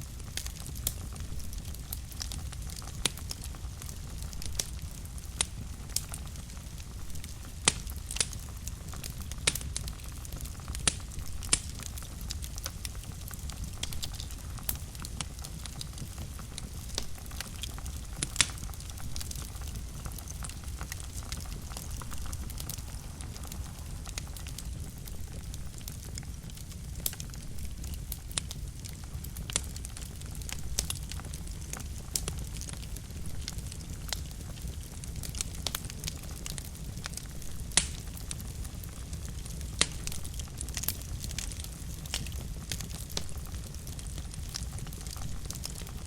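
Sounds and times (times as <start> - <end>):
fire crackling and popping: 0.0 - 46.0
fire low rumble: 0.0 - 46.0.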